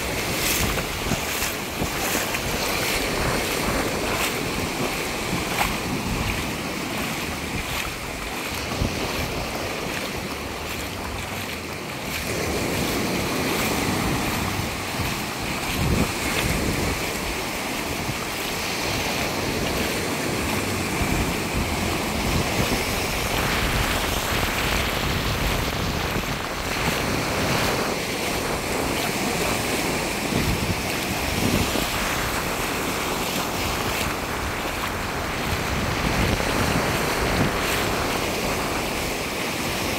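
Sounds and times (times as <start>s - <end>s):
small waves washing up a beach: 0.0s - 39.9s
wind on microphone: 0.0s - 39.9s.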